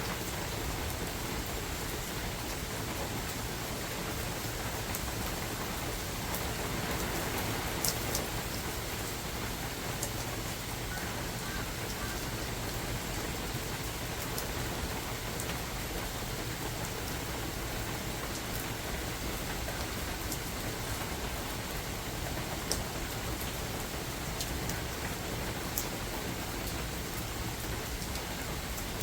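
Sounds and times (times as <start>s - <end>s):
rain falling in a forest: 0.0s - 29.0s.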